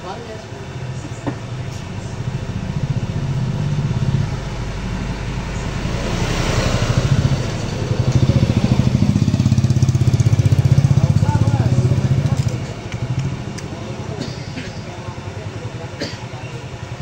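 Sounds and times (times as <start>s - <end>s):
motorcycle engine idling: 0.0s - 17.0s
motorcycle passing: 0.0s - 17.0s.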